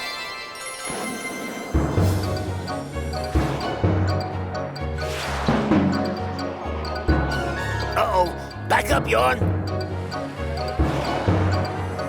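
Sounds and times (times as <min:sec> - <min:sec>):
upbeat cartoon music: 0:01.7 - 0:12.0.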